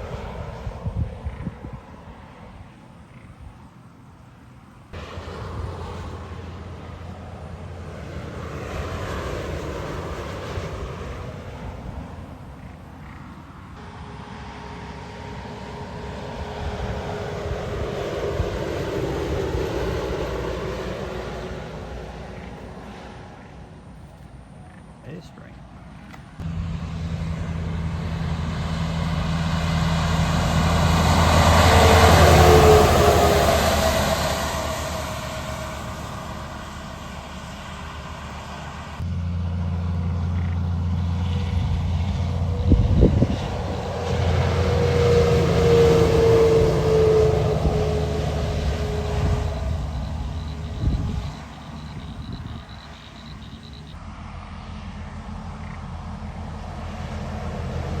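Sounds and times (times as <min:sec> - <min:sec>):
heavy truck engine: 0:00.0 - 0:58.0
road vehicle passing: 0:00.0 - 0:58.0.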